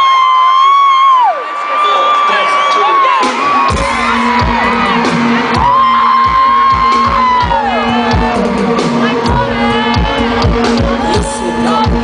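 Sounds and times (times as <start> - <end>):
crowd whooping: 0.0 - 12.0
electronic dance music: 1.8 - 12.0.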